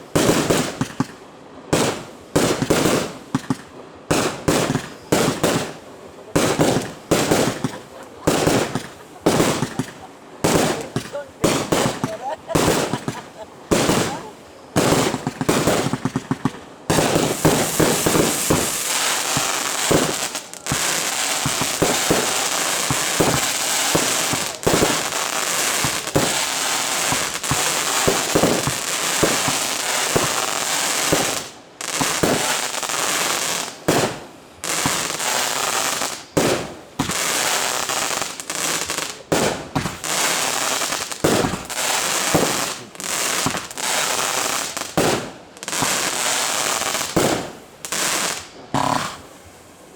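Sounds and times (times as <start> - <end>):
fireworks bursts and crackling: 0.0 - 49.7.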